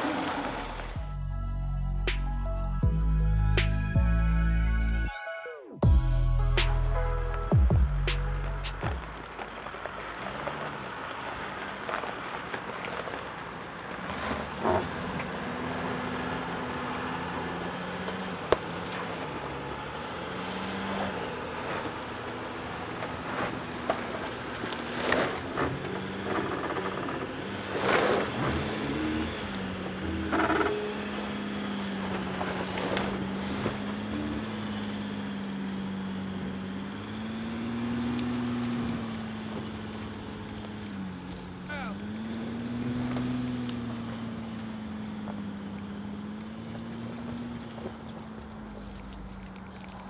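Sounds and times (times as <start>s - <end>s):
reeds scraping against van: 0.0s - 1.0s, 7.4s - 50.0s
van engine running: 0.0s - 5.1s, 5.8s - 50.0s.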